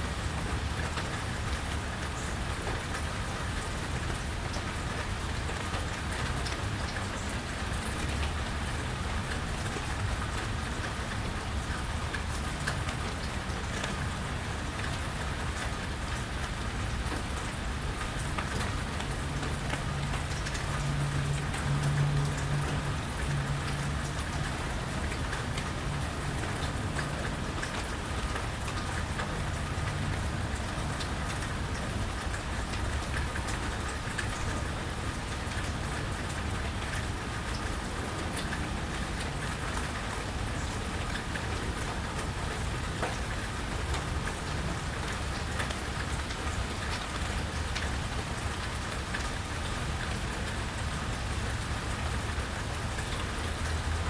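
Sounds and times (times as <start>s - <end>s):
rain falling: 0.0s - 54.0s
raindrops ticking close by: 0.0s - 54.0s.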